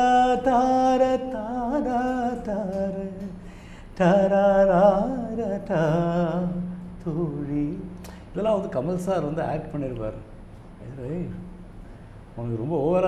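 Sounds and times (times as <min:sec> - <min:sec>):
man singing unaccompanied: 0:00.0 - 0:11.6, 0:12.4 - 0:13.0.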